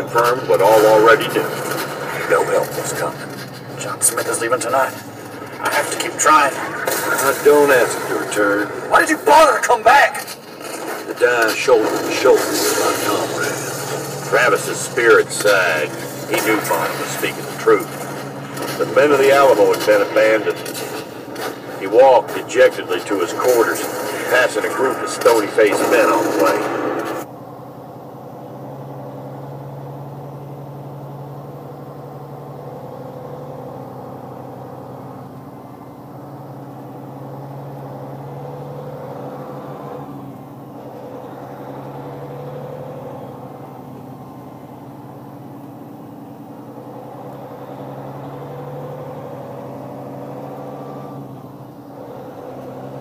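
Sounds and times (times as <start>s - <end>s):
vehicle engine droning: 0.0s - 53.0s.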